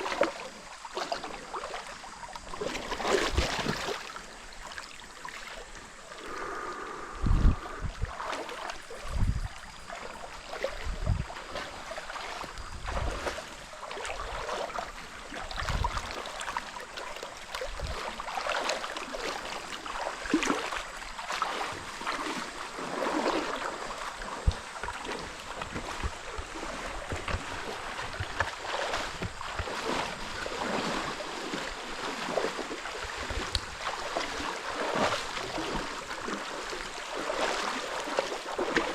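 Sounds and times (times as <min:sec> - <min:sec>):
stream water flowing and splashing: 0:00.0 - 0:38.9.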